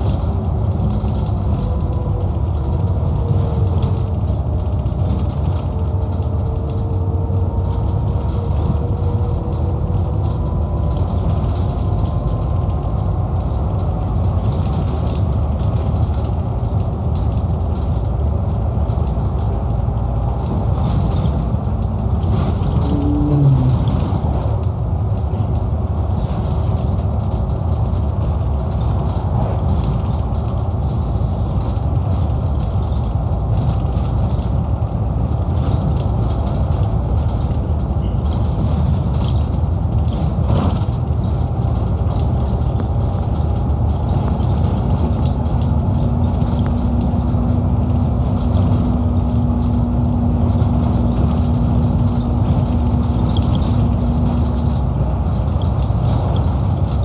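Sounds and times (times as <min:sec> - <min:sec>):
bus diesel engine drone: 0:00.0 - 0:57.0
road rumble: 0:00.0 - 0:57.0.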